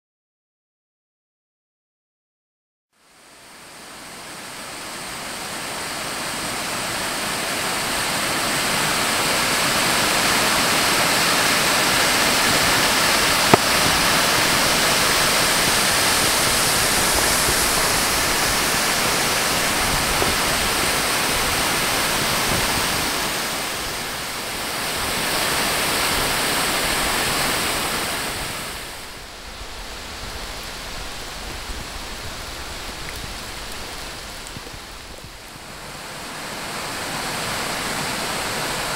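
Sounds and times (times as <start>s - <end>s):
rushing water of creek waterfall: 3.0s - 38.9s.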